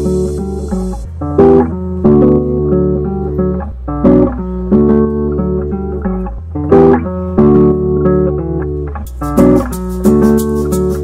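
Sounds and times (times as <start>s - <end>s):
plucked guitar: 0.0s - 11.0s
sustained bass line: 0.0s - 11.0s.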